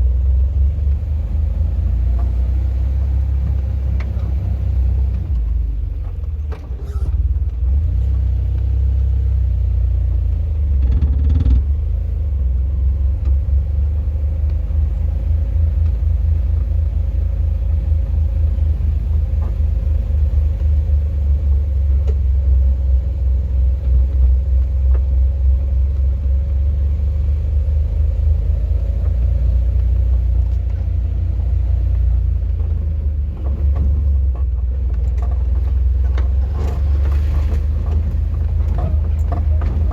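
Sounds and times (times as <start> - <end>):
vehicle driving rumble: 0.0 - 39.9.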